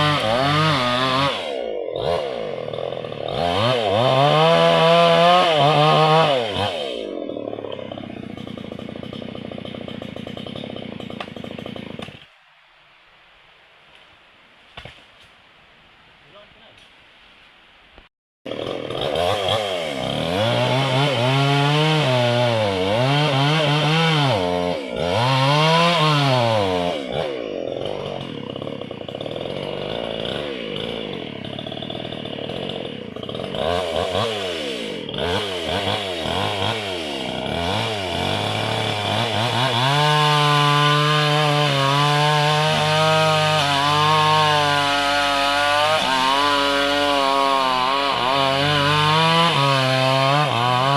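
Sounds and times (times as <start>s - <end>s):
chainsaw revving: 0.0s - 12.2s, 18.5s - 50.9s.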